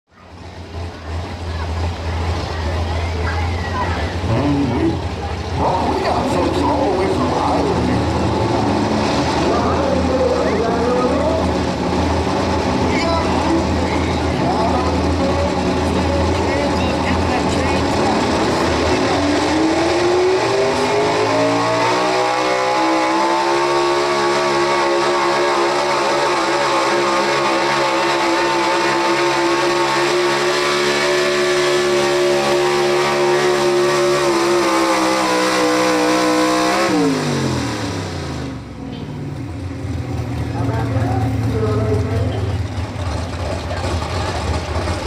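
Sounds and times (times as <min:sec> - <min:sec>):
truck engine at full throttle: 0:00.1 - 0:45.0.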